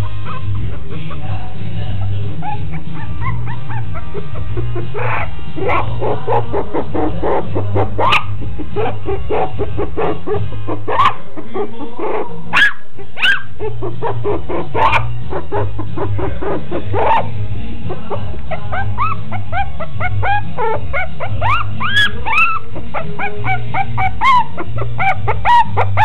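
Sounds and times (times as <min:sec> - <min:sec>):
background music: 0:00.0 - 0:26.0
puppies yipping and barking: 0:00.0 - 0:26.0.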